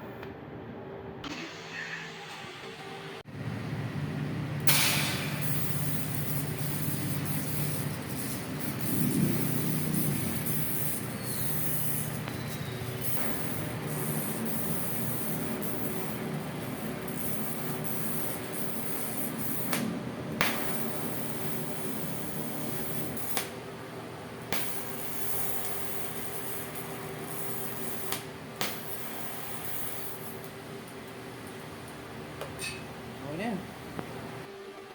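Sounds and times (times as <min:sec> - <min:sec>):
welding arc hissing: 0:01.2 - 0:34.5.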